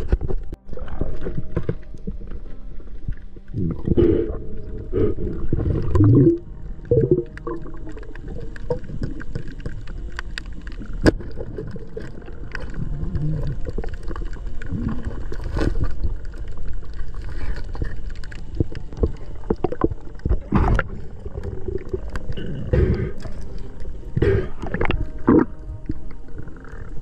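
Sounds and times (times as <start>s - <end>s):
underwater rumble of moving water: 0.0s - 27.0s.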